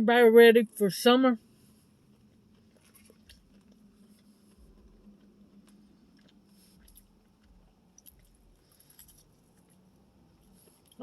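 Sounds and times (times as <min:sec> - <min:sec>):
low steady hum: 0:00.0 - 0:11.0
chewing food: 0:01.9 - 0:11.0.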